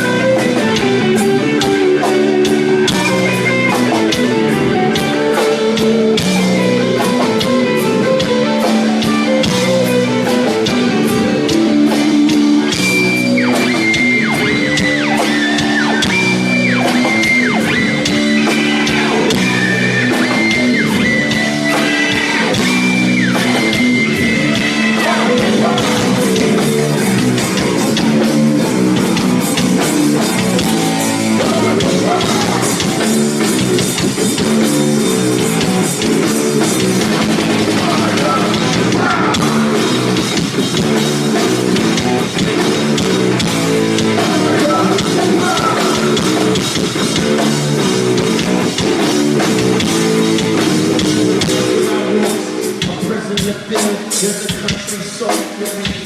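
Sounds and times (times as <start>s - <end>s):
sliding lead guitar notes: 0.0s - 53.0s
live rock band playing: 0.0s - 56.0s.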